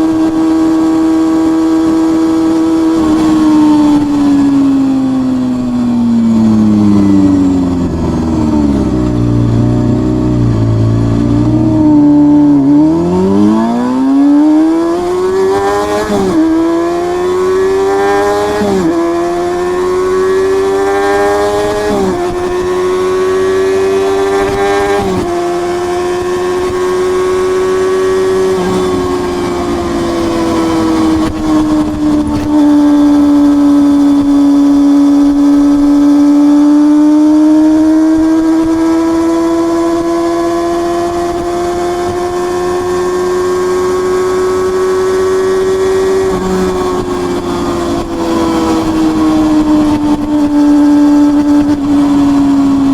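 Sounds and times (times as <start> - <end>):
motorcycle engine upshifting: 0.0 - 52.9.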